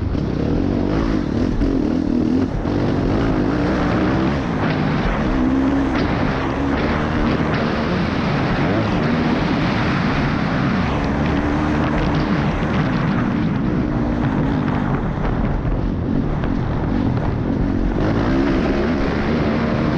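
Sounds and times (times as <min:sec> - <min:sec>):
motorcycle engine while riding: 0:00.0 - 0:19.9
steady rush of noise: 0:00.0 - 0:19.9.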